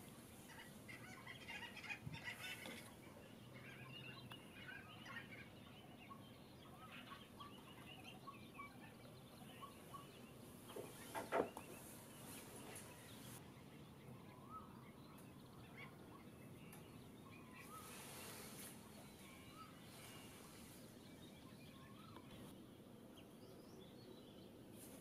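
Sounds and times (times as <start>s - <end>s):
wetland birds calling: 0.0s - 23.0s.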